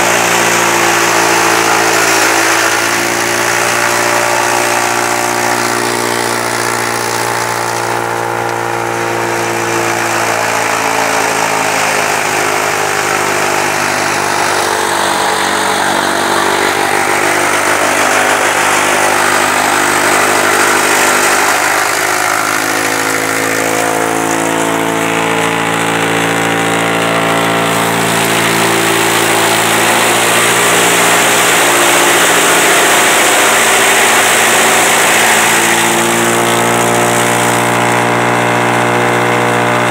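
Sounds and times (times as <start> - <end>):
loud rushing hiss of cutter: 0.0 - 38.0
tractor engine under load: 0.0 - 39.9.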